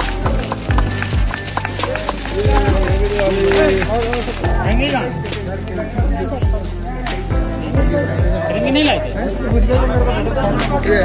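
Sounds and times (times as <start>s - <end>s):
background music with bass drum: 0.0s - 11.0s.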